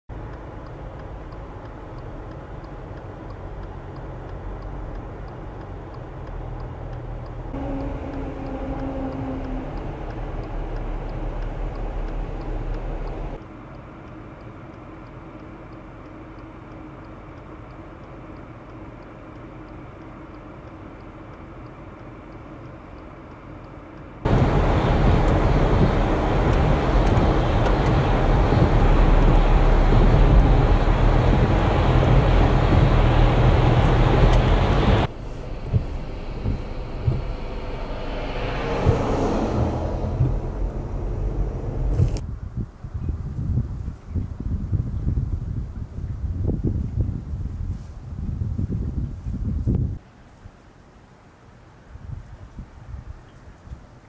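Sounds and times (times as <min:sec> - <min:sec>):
truck engine and tyre rush: 0:00.1 - 0:50.0
vehicle noise on wet road: 0:00.1 - 0:54.0.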